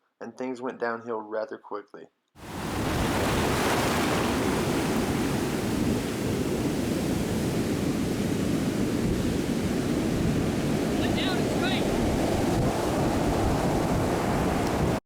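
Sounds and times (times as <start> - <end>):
strong wind: 2.4 - 15.0
surf: 2.4 - 15.0.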